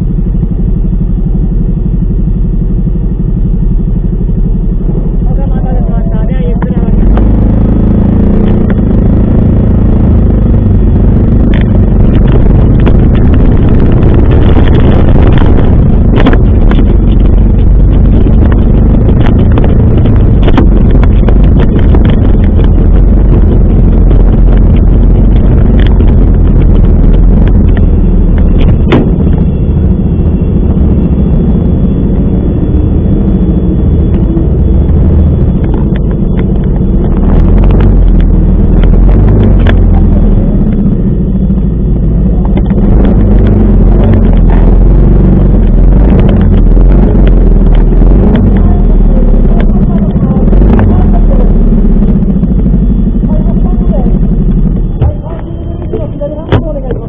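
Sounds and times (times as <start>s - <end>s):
scooter engine running: 0.0s - 57.0s
wind buffeting microphone: 0.0s - 57.0s
wind rush: 0.0s - 57.0s.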